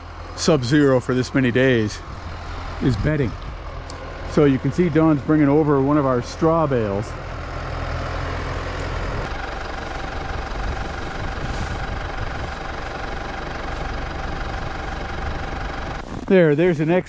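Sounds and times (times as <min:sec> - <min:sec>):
farm machine engine running: 0:00.0 - 0:17.0
steady whine: 0:00.0 - 0:17.0.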